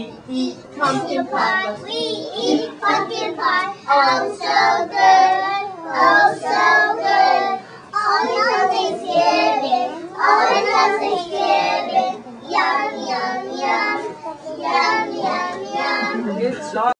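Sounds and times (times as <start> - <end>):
children singing: 0.9 - 16.4.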